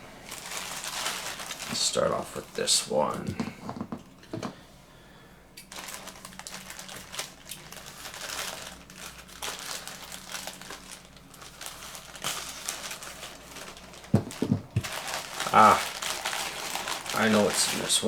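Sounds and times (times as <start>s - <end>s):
packaging crinkling and tearing: 0.2s - 3.5s, 5.6s - 18.0s.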